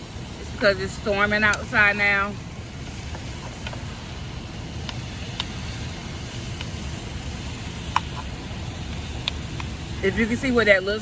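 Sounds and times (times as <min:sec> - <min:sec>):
gas burner rumble: 0:00.0 - 0:11.0
meat frying pops: 0:00.0 - 0:11.0.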